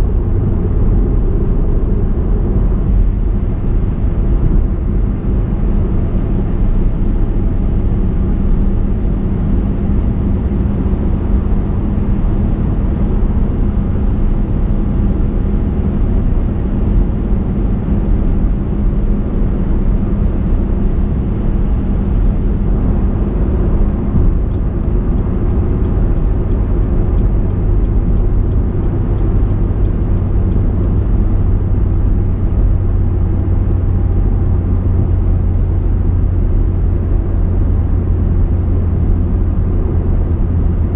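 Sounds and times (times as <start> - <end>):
car road and engine noise: 0.0 - 40.9.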